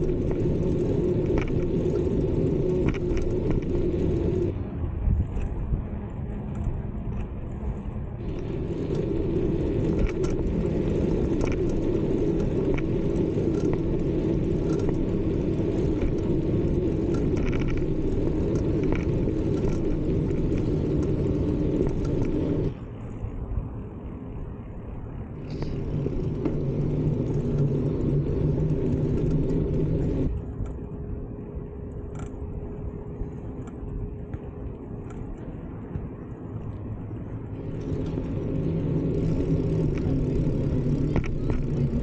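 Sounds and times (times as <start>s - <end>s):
bicycle tyres rolling: 0.0s - 4.6s, 5.2s - 42.0s
bicycle rattles and ticks: 0.0s - 42.0s
wind rumble on microphone: 0.0s - 42.0s.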